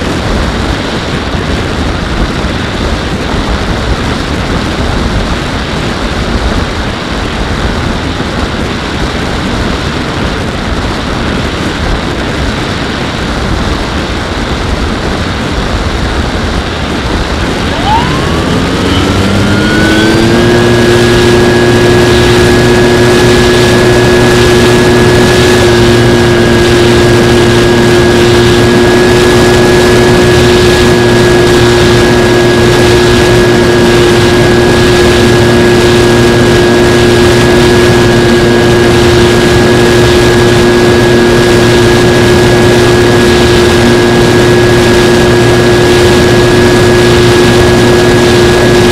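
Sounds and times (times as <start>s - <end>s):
electric motor and propeller drone: 0.0s - 48.9s
wind rushing over camera: 0.0s - 48.9s.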